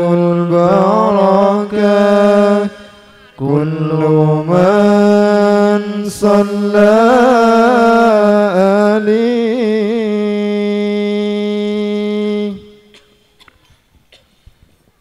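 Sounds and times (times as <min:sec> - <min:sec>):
man singing unaccompanied: 0:00.0 - 0:13.2.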